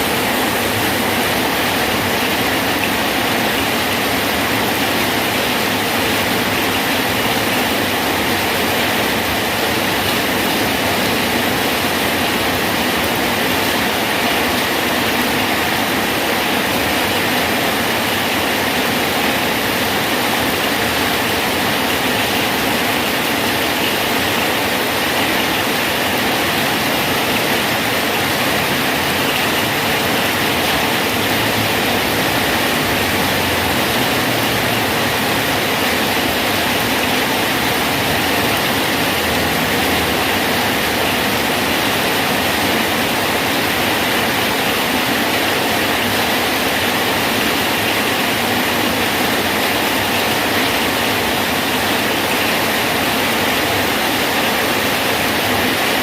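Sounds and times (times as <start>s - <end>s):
rain falling on a bridge: 0.0s - 56.0s.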